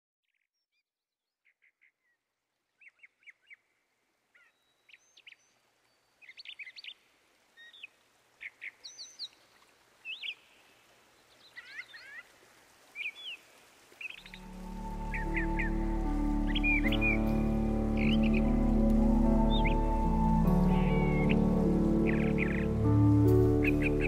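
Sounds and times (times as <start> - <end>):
faint background hiss: 2.6 - 24.0.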